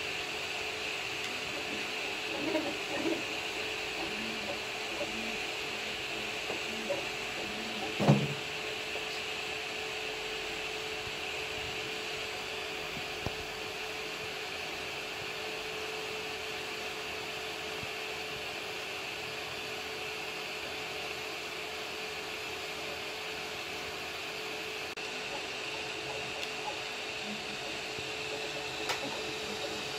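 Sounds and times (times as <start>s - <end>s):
printer fan whirring: 0.0s - 29.9s.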